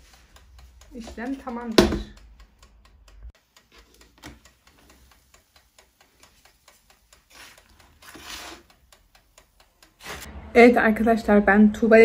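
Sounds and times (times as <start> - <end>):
faint rapid ticking: 0.0 - 10.0.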